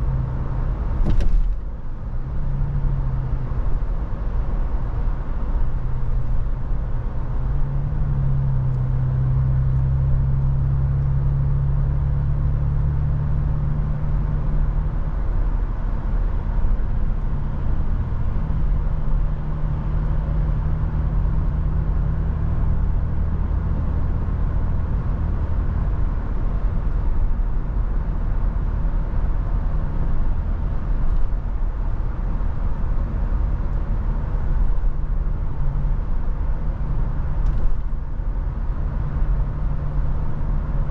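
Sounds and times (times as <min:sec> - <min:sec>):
car engine drone in cabin: 0:00.0 - 0:40.9.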